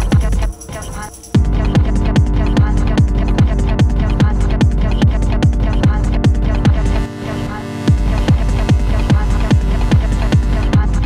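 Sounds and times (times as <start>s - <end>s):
heavy kick drum: 0.0s - 0.7s, 1.4s - 7.1s, 7.8s - 11.0s
electronic dance music: 0.0s - 11.0s.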